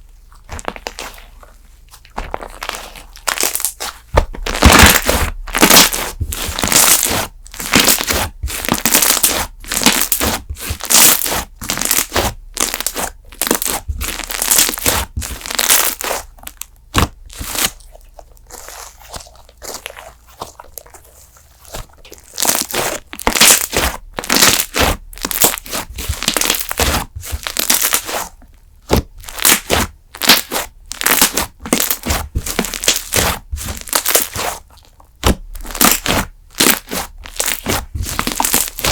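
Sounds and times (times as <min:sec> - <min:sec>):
slime squeezed crackling and popping: 0:00.4 - 0:38.9.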